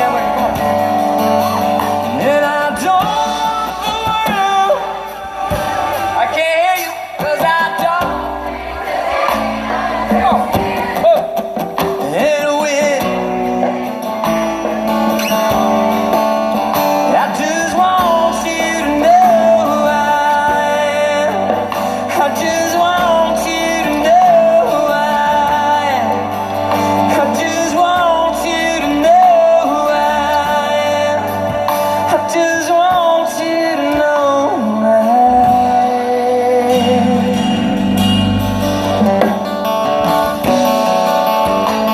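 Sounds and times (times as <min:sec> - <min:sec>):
person singing with vibrato: 0:00.0 - 0:14.7, 0:16.9 - 0:40.3
electric guitar: 0:00.0 - 0:41.9
live country band playing: 0:00.0 - 0:41.9.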